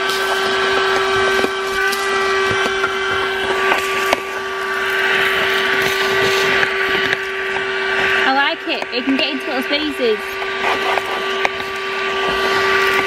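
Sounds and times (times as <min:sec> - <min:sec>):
oats crackling through nozzle: 0:00.0 - 0:13.0
vacuum cleaner motor whine: 0:00.0 - 0:13.0.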